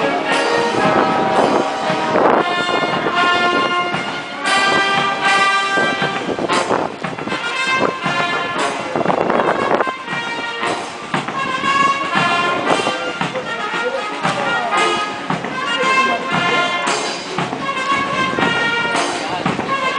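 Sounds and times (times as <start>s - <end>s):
military brass band march: 0.0s - 19.9s
steady drum beat: 0.0s - 19.9s.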